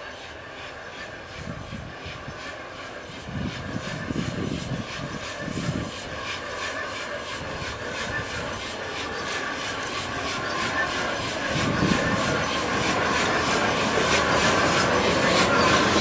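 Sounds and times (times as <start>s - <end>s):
steam hiss and squeal: 0.0s - 16.0s
steam locomotive exhaust beats: 0.0s - 16.0s.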